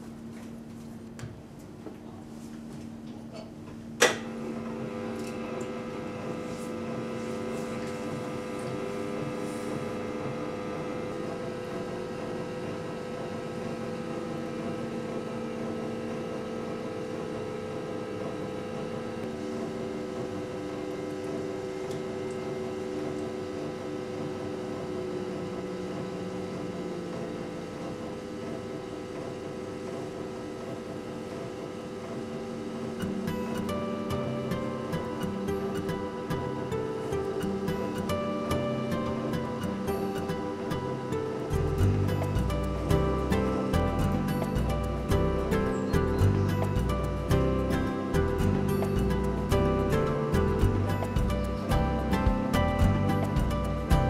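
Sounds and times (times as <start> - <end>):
potter's wheel motor humming: 3.1 - 54.0.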